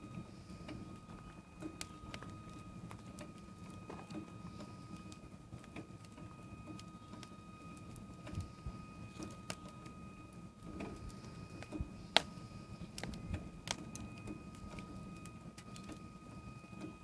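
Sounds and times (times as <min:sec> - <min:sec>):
faint high whine: 0:00.0 - 0:17.0
wood fire crackling: 0:00.0 - 0:17.0.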